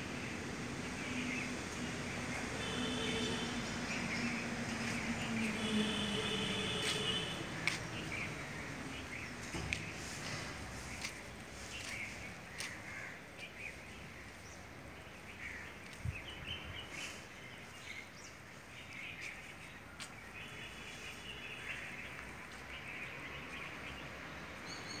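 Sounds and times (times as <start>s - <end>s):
small birds chirping: 0.2s - 25.0s.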